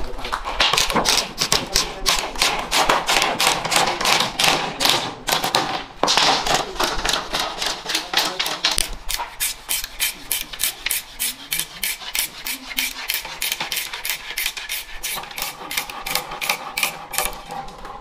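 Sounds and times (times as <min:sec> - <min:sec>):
blade splitting bamboo: 0:00.6 - 0:17.8.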